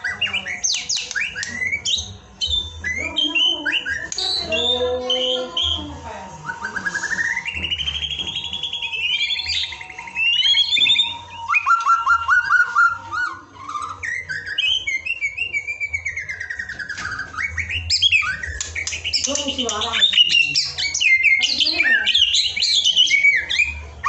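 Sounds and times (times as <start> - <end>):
bird singing varied song: 0.0 - 24.0.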